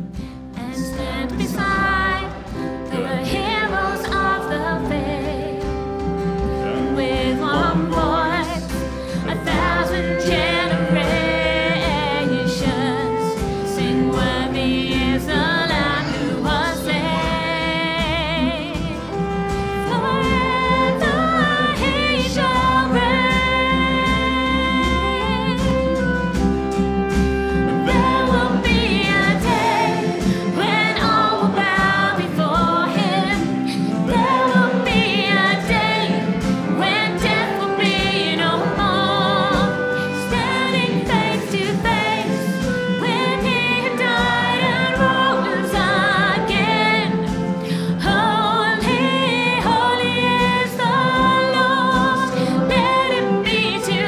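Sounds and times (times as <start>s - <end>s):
worship band playing a hymn: 0.0s - 54.0s.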